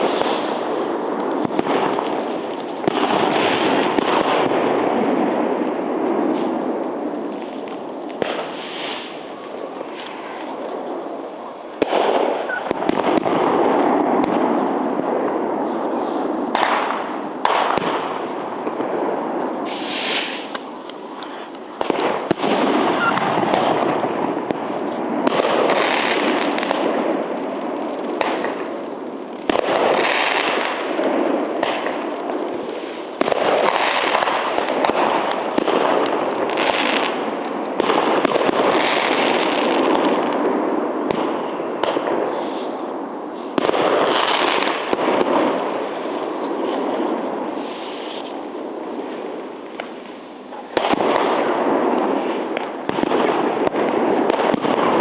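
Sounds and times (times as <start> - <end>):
fireworks banging: 0.0 - 55.0.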